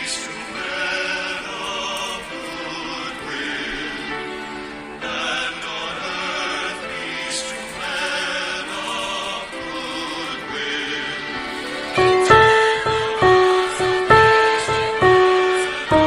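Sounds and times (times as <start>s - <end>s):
choir singing held notes: 0.0s - 16.0s
musical accompaniment: 0.0s - 16.0s.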